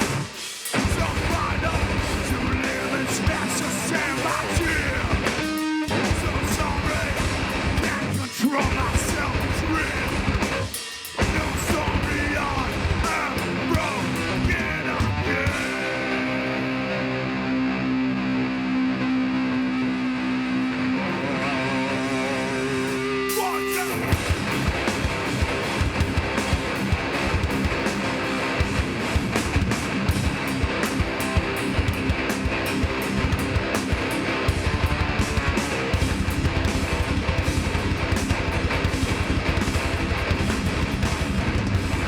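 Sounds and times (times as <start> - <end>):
hardcore band playing: 0.0 - 42.0.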